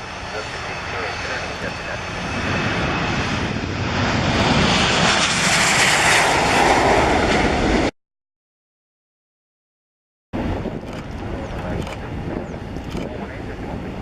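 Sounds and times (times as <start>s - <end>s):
jet engines roaring: 0.0s - 7.9s, 10.4s - 14.0s.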